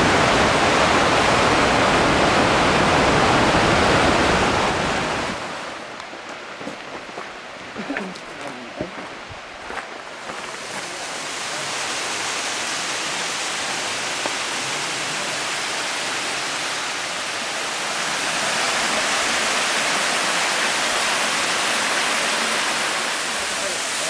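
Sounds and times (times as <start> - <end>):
stream tumbling over rocks: 0.0 - 24.0.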